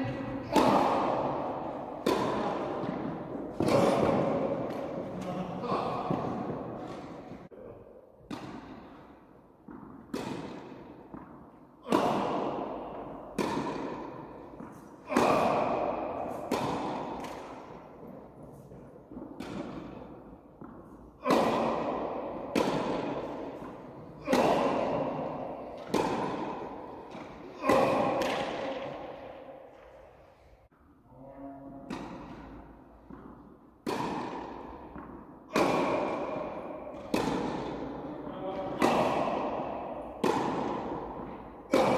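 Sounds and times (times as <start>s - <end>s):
tennis ball hit by rackets: 0.3s - 7.4s, 8.2s - 30.1s, 31.9s - 41.9s.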